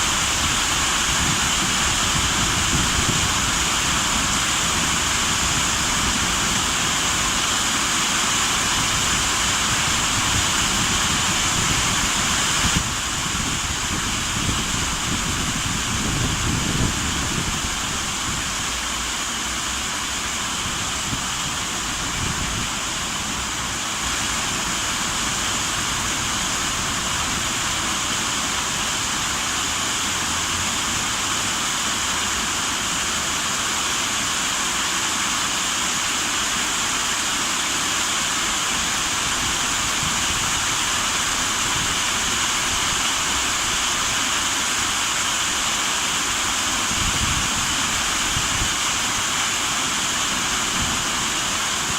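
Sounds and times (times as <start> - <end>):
running water rushing: 0.0 - 51.9.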